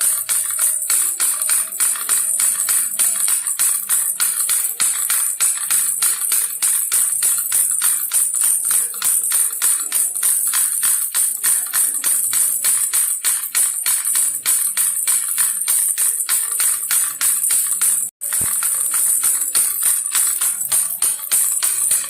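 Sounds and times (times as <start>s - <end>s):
baby rattle jingling: 0.0s - 22.0s.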